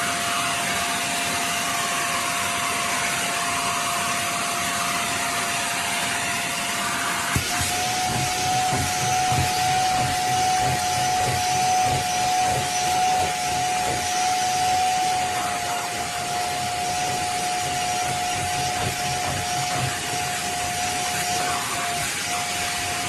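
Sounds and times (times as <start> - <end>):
vacuum cleaner motor whine: 0.0 - 23.0.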